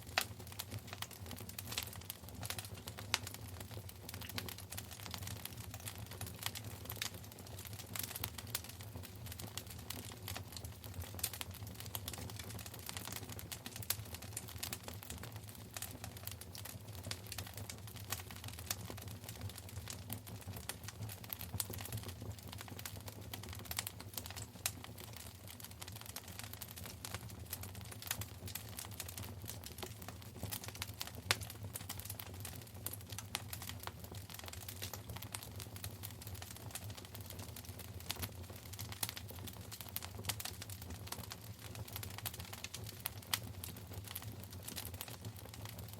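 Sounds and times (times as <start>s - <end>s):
wood fire crackling: 0.0s - 45.9s
low rumble of flames: 0.2s - 45.9s.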